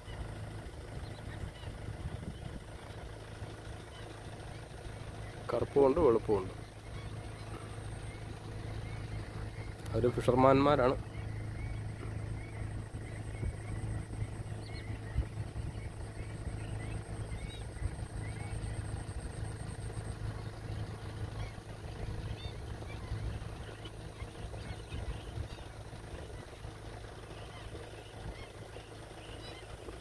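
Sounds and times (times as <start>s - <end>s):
steady low hum: 0.0s - 30.0s
wading birds chirping: 0.0s - 30.0s.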